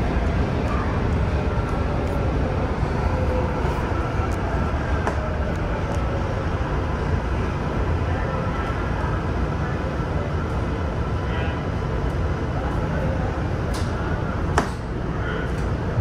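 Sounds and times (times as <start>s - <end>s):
rail car rumble: 0.0s - 16.0s.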